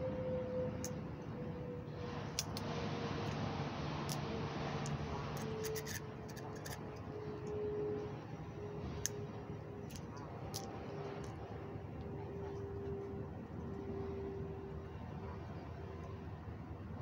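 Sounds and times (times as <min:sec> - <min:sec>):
faint hum: 0:00.0 - 0:17.0
outdoor background noise: 0:00.0 - 0:17.0.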